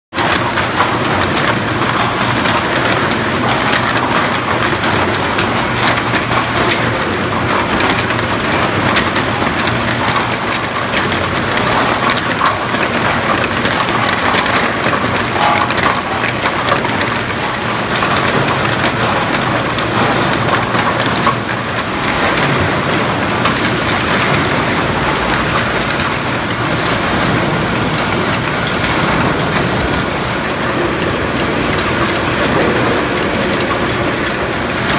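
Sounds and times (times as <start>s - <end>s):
packaging machine clattering: 0.2s - 34.9s.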